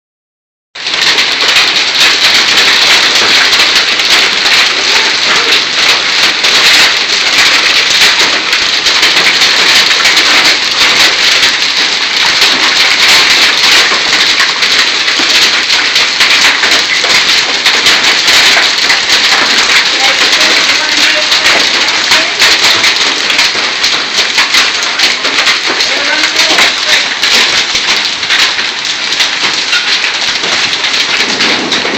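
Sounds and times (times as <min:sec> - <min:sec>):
hailstones pelting down: 0:00.8 - 0:31.9.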